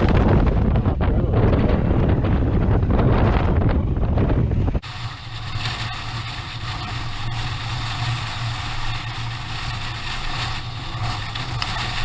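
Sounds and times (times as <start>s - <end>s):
motorcycle engine humming: 0.0s - 12.0s
wind noise on microphone: 0.0s - 12.0s.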